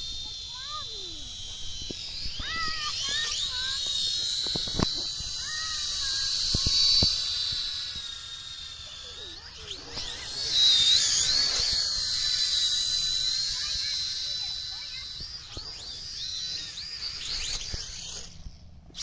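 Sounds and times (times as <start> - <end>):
toy aircraft motors whining: 0.0 - 19.0.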